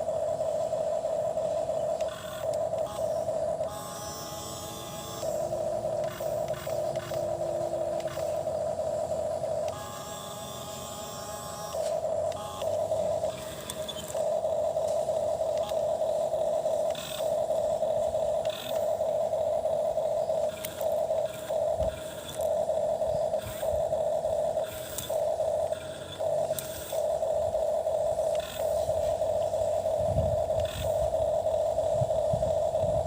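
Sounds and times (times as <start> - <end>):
toy electric motor whining: 0.0 - 33.0.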